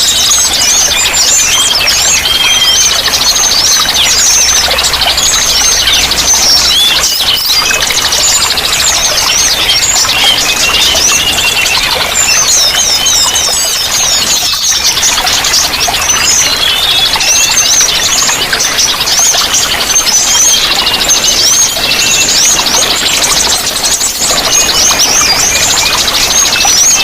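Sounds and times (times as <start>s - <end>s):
running water: 0.0s - 27.0s
songbirds chirping and trilling: 0.0s - 27.0s.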